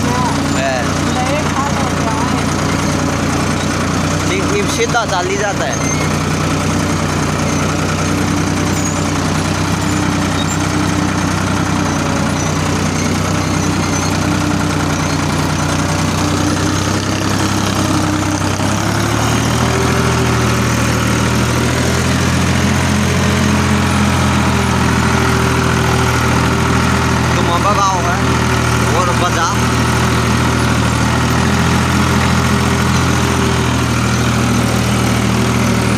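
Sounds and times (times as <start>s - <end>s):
tractor engine running under load: 0.0s - 35.9s.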